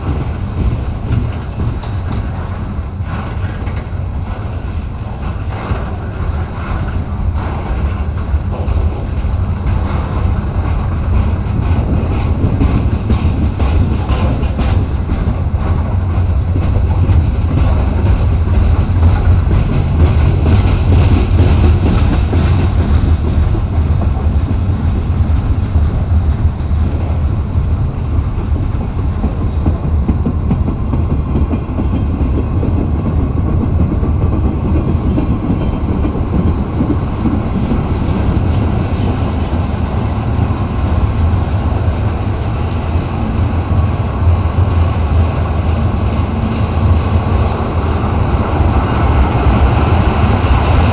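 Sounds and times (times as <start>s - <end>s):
train wheels on rails: 0.0s - 50.9s.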